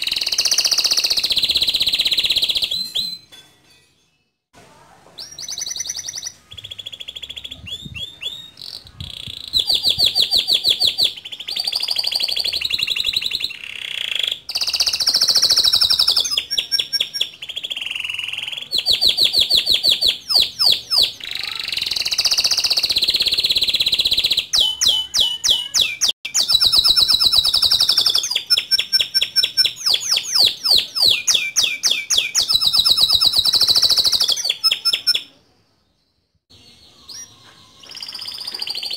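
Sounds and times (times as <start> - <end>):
canary singing rolling trills: 0.0 - 3.4, 5.2 - 38.9.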